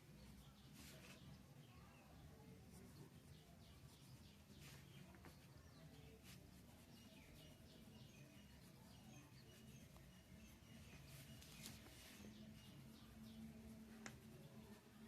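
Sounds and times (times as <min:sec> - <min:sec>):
faint high chirps: 0:00.0 - 0:15.0.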